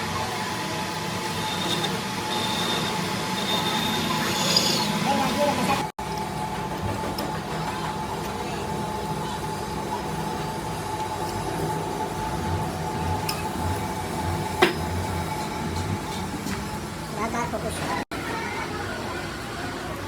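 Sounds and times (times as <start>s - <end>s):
machine humming and whining: 0.0s - 20.0s.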